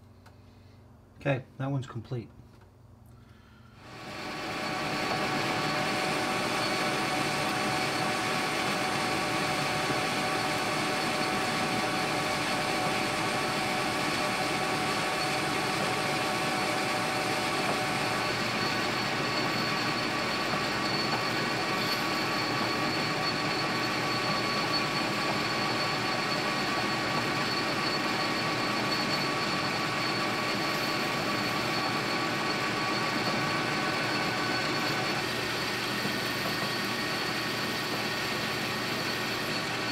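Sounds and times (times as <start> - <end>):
whining tones: 3.1 - 39.9
metal lathe humming: 3.8 - 39.9.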